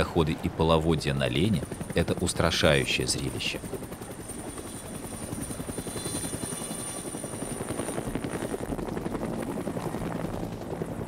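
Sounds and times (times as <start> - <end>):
helicopter high whine: 0.0 - 11.0
helicopter rotor chop: 0.0 - 11.0.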